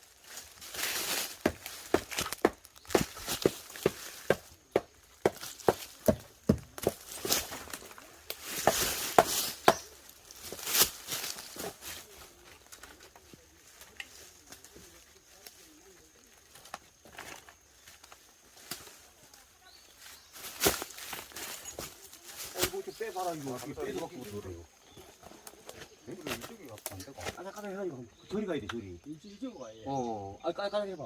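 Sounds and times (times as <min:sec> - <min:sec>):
rustling and scraping: 0:00.0 - 0:27.4.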